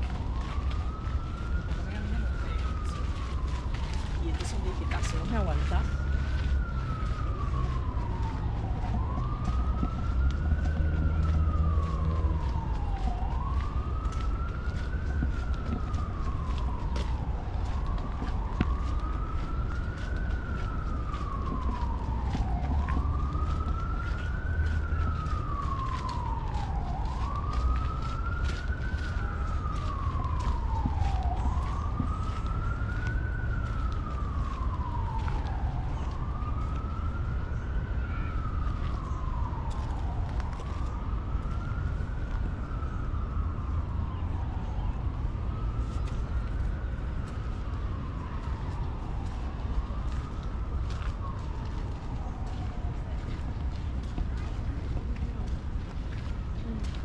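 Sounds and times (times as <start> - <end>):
emergency vehicle siren wailing: 0.0 - 57.0.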